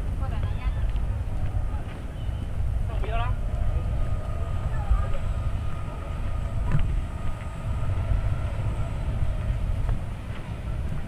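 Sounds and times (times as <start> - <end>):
walking rumble on microphone: 0.0 - 11.0
faint high whine: 1.7 - 11.0.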